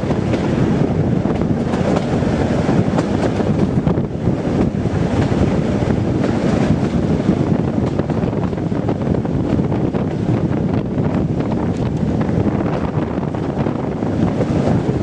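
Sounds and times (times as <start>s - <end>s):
train wheels on rails: 0.0s - 15.0s
wind buffeting microphone: 0.0s - 15.0s.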